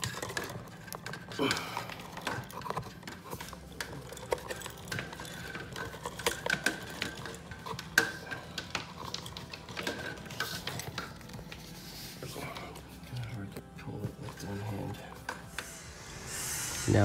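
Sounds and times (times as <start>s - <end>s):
cable scraping and rubbing: 0.0s - 17.0s.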